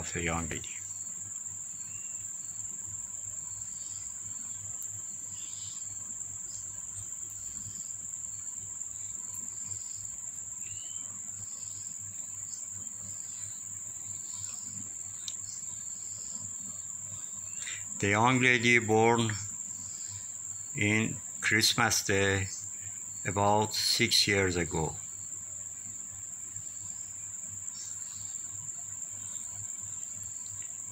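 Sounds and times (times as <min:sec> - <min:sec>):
high-pitched insect trill: 0:00.0 - 0:30.9.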